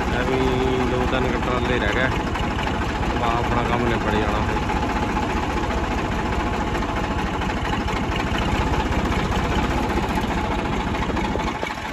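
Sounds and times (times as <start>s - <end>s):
tractor diesel engine idling: 0.0s - 11.9s.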